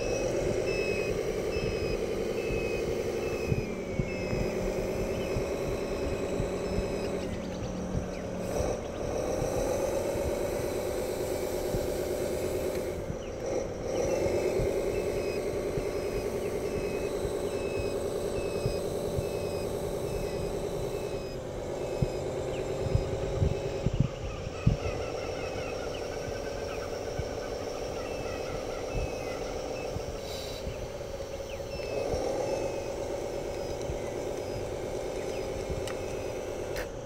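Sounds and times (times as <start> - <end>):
toy truck motor running: 0.0 - 37.0.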